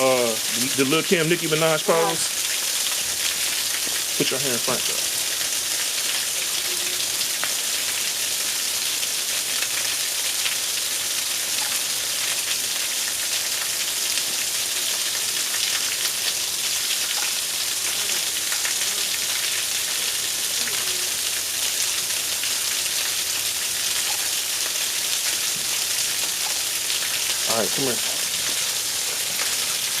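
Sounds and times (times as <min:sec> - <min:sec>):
waterfall splashing: 0:00.0 - 0:30.0.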